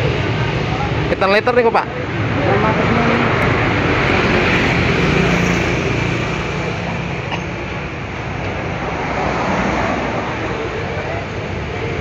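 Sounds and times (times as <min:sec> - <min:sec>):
engine noise: 0:00.0 - 0:12.0.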